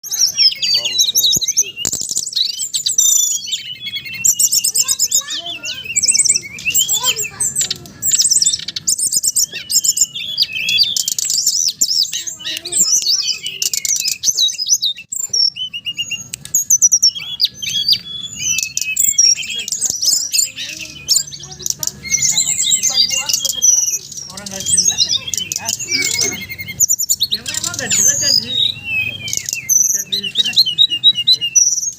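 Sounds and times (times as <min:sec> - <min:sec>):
songbird chirping and trilling: 0:00.0 - 0:31.9.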